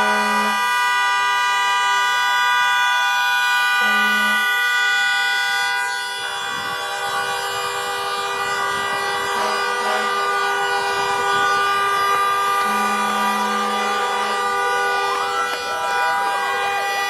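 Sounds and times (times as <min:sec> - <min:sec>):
car horns blaring: 0:00.0 - 0:17.0.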